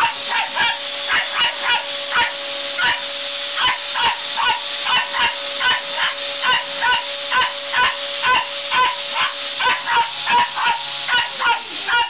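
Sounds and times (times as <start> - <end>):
dog barking: 0.0 - 12.0
vacuum cleaner humming: 0.0 - 12.0.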